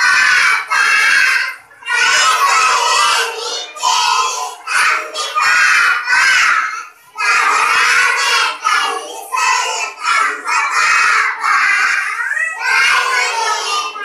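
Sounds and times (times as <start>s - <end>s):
young children singing in unison: 0.0s - 14.0s.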